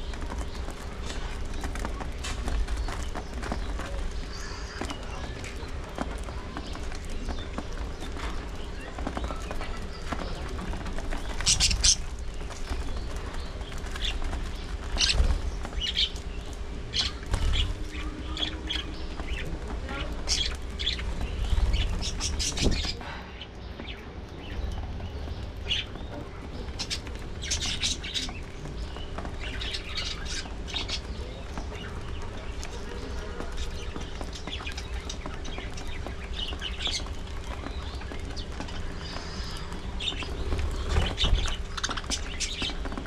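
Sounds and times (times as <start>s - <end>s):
budgerigars chirping and chattering: 0.0s - 43.0s.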